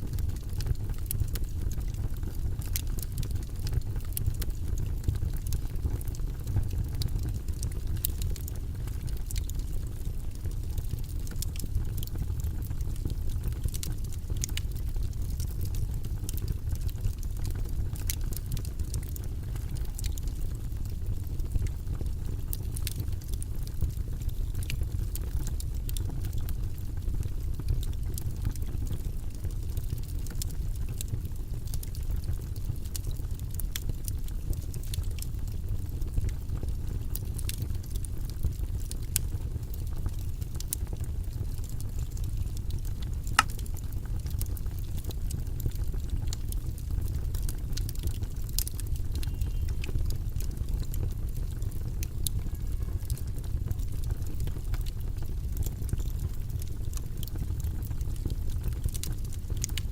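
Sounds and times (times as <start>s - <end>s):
low-pitched white noise: 0.0s - 59.9s
small irregular clicks: 2.6s - 9.8s, 10.8s - 26.8s, 29.7s - 59.9s.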